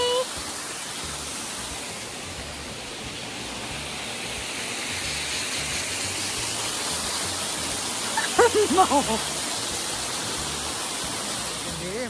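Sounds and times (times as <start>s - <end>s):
waterfall rushing onto rocks: 0.0s - 12.0s.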